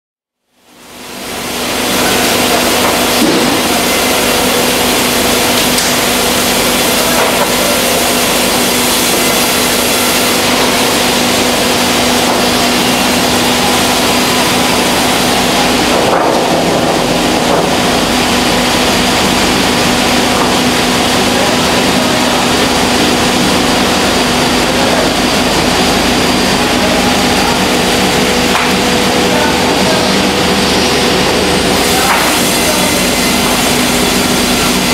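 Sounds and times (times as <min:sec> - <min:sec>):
sawmill machinery running: 0:00.6 - 0:34.9.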